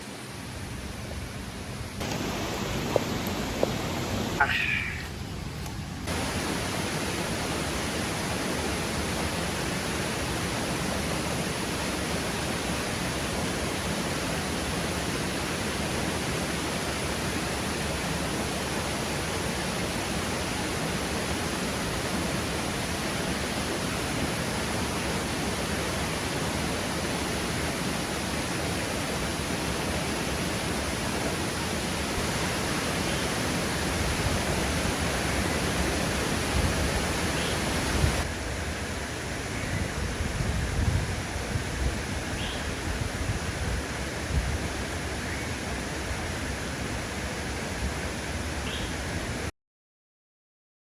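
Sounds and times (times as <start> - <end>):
rushing falling water: 0.0 - 49.5.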